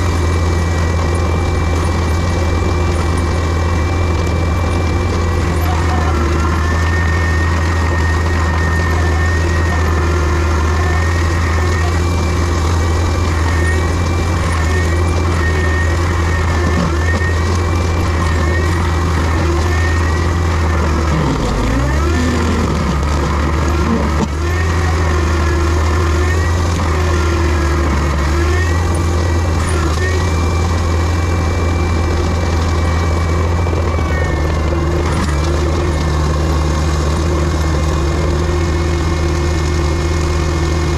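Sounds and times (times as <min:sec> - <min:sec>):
heavy machinery diesel engine running: 0:00.0 - 0:40.9
high wavering whine: 0:00.0 - 0:40.9.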